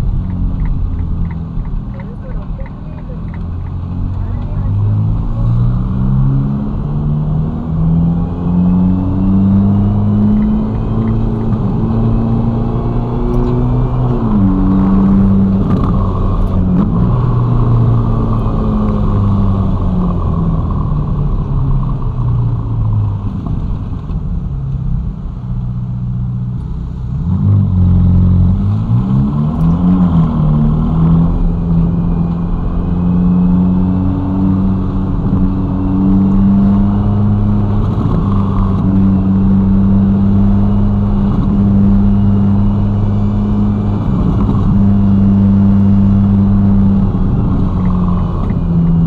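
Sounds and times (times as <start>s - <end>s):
car engine while driving: 0.0s - 49.0s.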